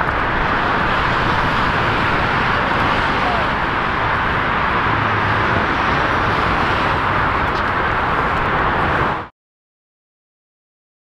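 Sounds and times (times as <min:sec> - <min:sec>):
jet engines running: 0:00.0 - 0:09.3.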